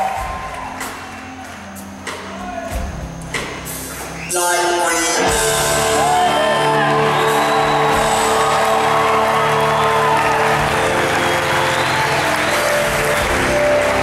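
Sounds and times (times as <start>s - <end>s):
backing band: 0.0s - 14.0s.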